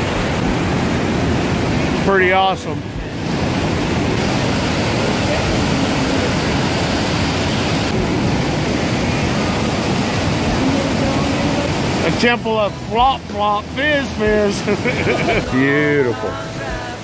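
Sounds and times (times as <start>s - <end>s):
river rushing over waterfall: 0.0s - 17.0s.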